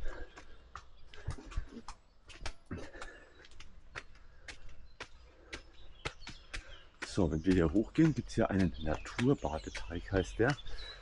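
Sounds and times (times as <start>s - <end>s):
footsteps: 0.0s - 11.0s
soft low thumps: 0.0s - 11.0s.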